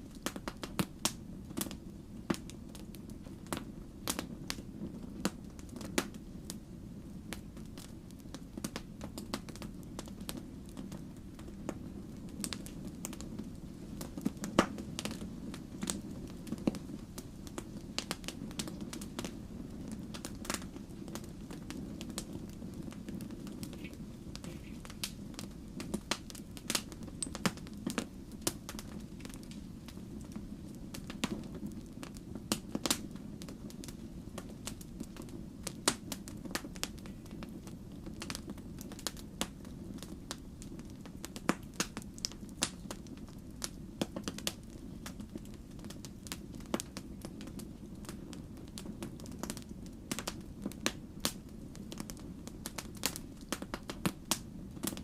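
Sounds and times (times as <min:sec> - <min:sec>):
log fire crackling: 0:00.0 - 0:55.0.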